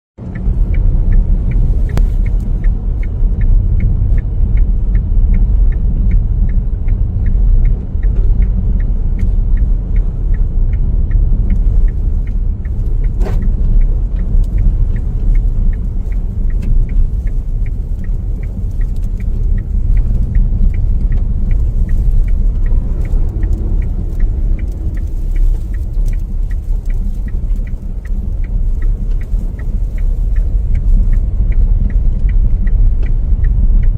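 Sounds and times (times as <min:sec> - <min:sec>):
car rumble while moving: 0:00.2 - 0:33.9
sharp regular ticking: 0:00.2 - 0:33.9.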